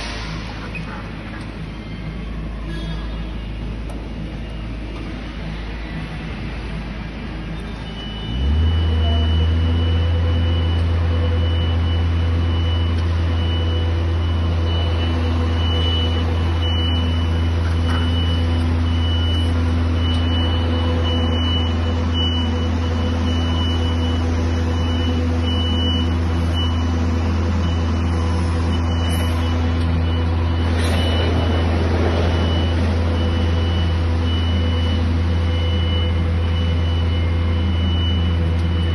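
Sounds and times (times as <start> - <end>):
electric truck low hum: 0.0 - 38.9.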